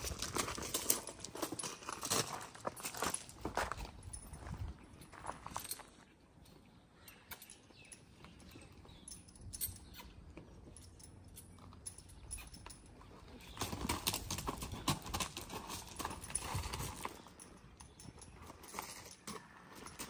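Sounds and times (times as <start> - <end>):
horse hooves on gravel: 0.0 - 6.1, 7.8 - 20.0.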